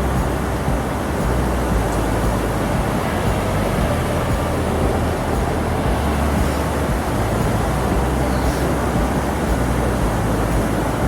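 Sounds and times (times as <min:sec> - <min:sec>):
heavy low rumble: 0:00.0 - 0:11.0
vehicle road noise: 0:00.0 - 0:11.0.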